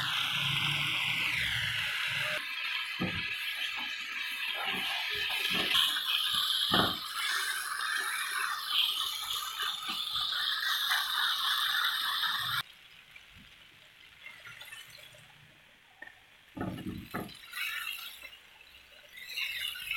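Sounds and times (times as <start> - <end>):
chicken sizzling in a grill pan: 0.0 - 19.9.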